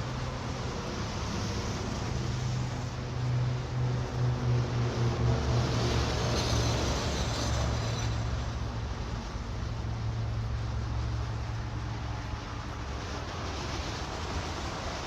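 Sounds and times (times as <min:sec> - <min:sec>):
low mechanical rumble and hum: 0:00.0 - 0:15.0.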